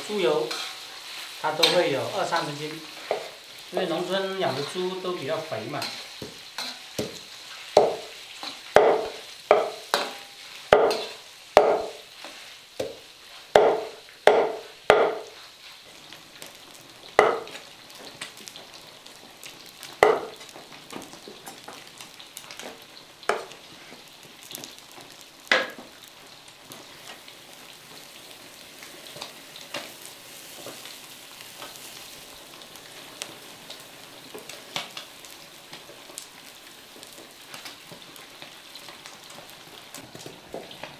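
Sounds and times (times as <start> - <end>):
fat sizzling in a wok: 0.0 - 40.9.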